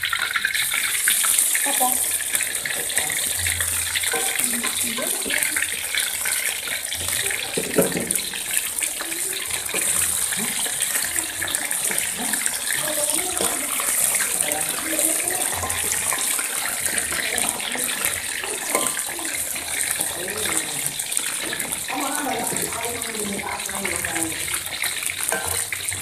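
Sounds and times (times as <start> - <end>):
chicken sizzling in hot oil: 0.0 - 26.0
metal spatula scraping wok: 0.4 - 26.0.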